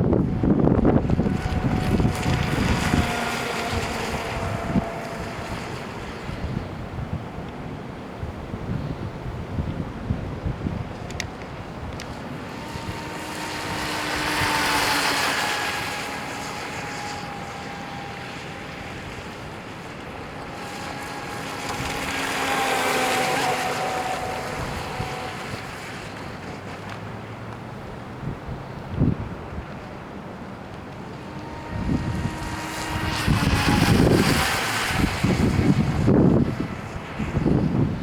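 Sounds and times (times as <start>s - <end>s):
wind noise on microphone: 0.0s - 26.7s, 27.8s - 38.0s
rc boat motor whine: 0.0s - 38.0s.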